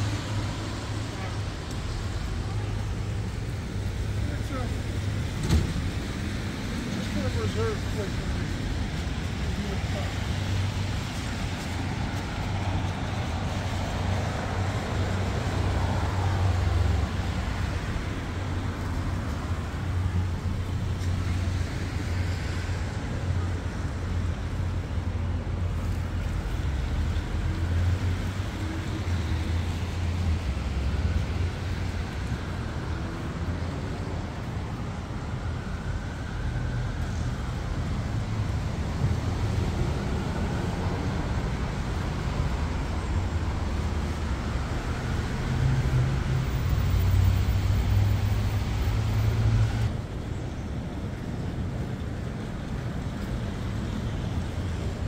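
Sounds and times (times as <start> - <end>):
traffic rumble: 0.0 - 55.0
vehicles passing: 0.0 - 55.0.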